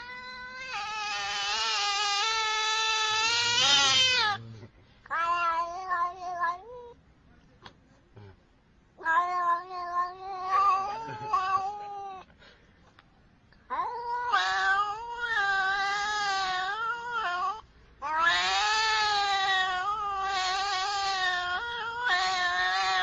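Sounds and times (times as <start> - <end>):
cat yowling: 0.0 - 4.4, 5.1 - 7.0, 9.0 - 12.3, 13.7 - 23.0.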